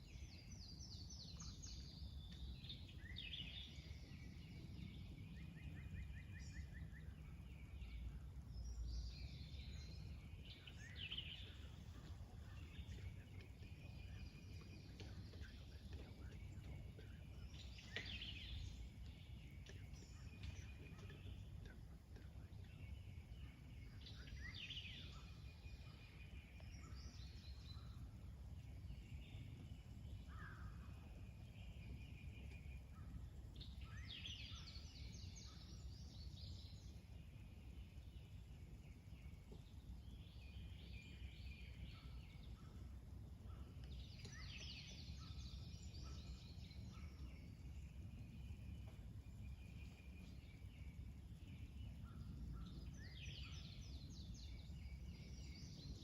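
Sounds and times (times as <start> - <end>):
low background rumble: 0.0 - 56.0
small birds singing: 0.0 - 56.0.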